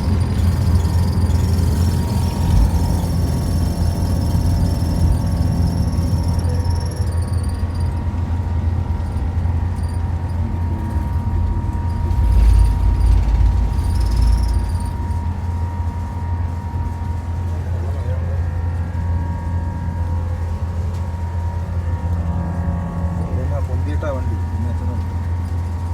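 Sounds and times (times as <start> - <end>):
jet engines rumbling with whine: 0.0 - 25.9.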